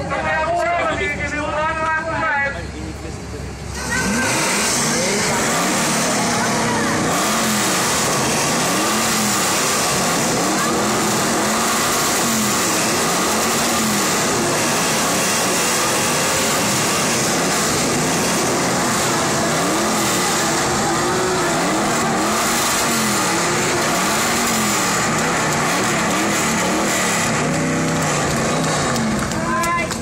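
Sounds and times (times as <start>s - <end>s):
car engine revving: 3.0s - 30.0s.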